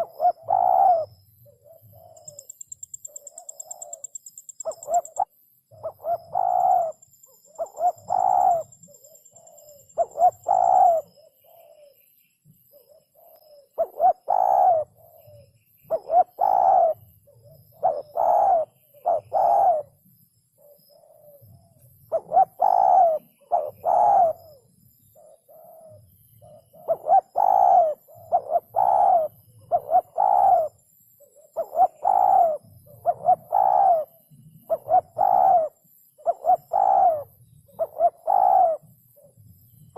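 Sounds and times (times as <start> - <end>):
dove cooing: 0.0 - 12.0, 12.7 - 20.0, 20.6 - 39.4.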